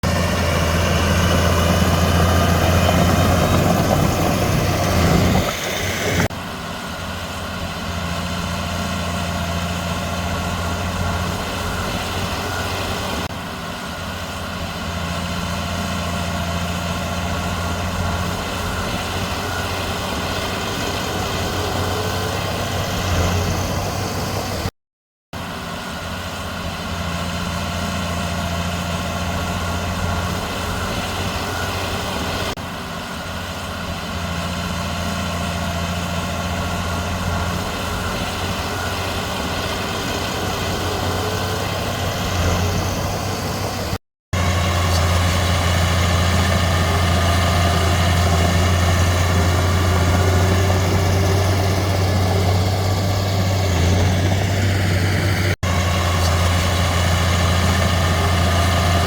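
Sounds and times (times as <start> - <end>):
bulldozer diesel engine running: 0.0 - 24.7, 25.4 - 59.0.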